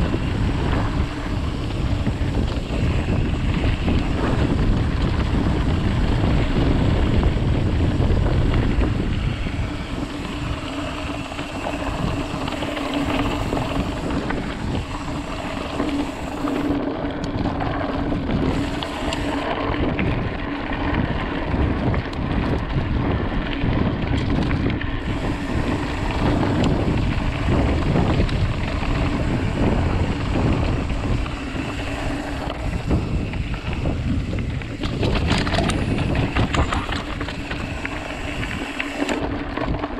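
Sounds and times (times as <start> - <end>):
bike rattling over rough trail: 0.0 - 39.9
steady hum: 0.0 - 39.9
wind buffeting microphone: 0.0 - 39.9.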